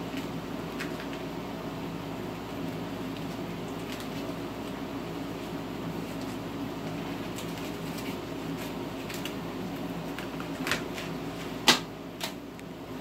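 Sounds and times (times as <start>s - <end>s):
plastic strips rustling and crackling: 0.0s - 1.3s, 2.5s - 12.4s
steady low hum: 0.0s - 13.0s.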